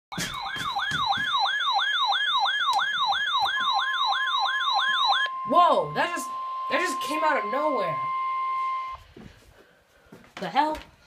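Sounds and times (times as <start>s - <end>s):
siren alarm falling sweeps: 0.1s - 9.0s
steady high alert tone: 0.1s - 9.0s.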